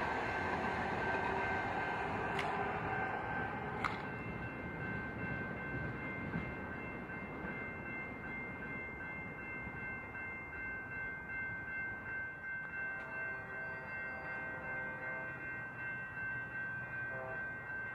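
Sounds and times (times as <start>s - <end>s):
train rumble on rails: 0.0s - 17.9s.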